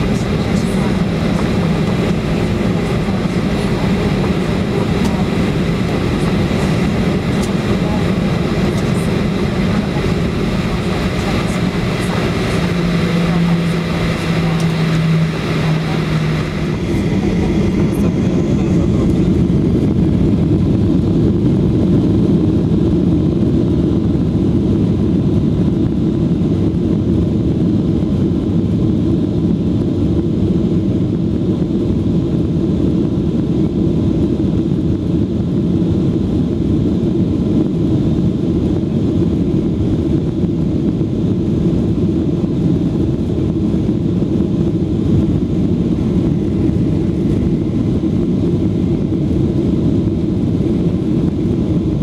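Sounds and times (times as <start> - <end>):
jet engines rumbling from cabin: 0.0 - 52.0.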